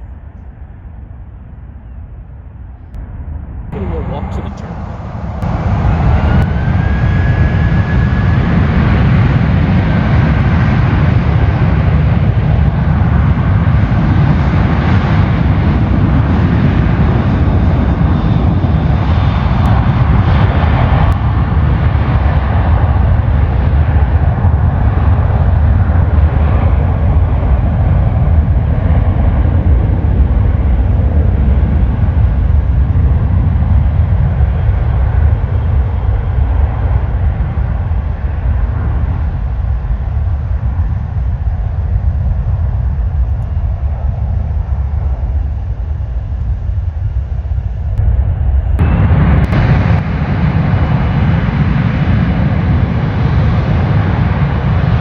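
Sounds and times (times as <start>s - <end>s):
jet engines roaring with whine: 0.0s - 55.0s.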